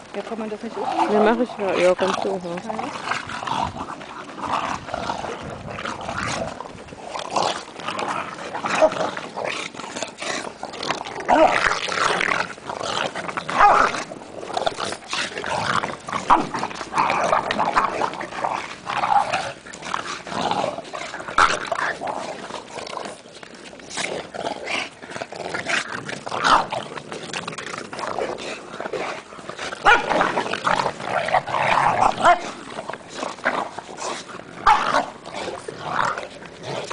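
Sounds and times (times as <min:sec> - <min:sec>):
dogs growling and yipping: 0:00.0 - 0:36.9.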